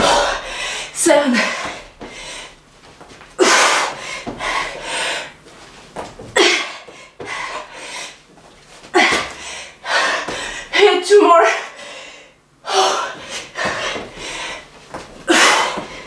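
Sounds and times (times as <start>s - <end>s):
woman breathing hard: 0.0s - 2.6s, 3.4s - 5.4s, 6.4s - 8.3s, 8.9s - 10.9s, 11.6s - 16.0s.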